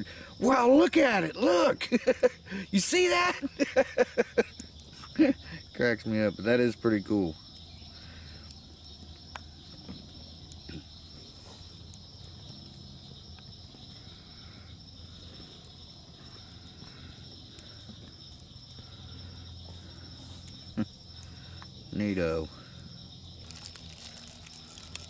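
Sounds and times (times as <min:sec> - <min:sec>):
campfire crackling: 0:00.0 - 0:25.0
crickets chirping: 0:00.0 - 0:25.0.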